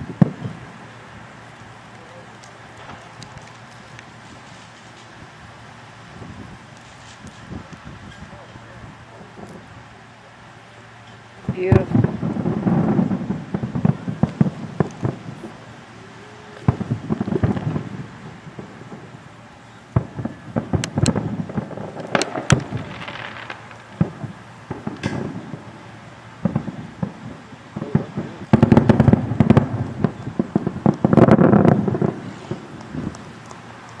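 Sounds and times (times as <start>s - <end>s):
fireworks banging and crackling: 0.0s - 34.0s.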